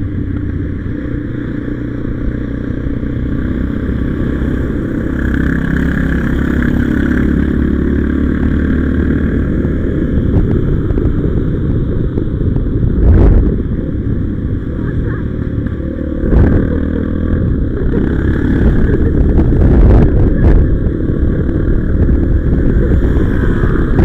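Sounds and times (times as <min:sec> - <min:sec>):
motorcycle engine running: 0:00.0 - 0:24.0
wind and road rush: 0:00.0 - 0:24.0.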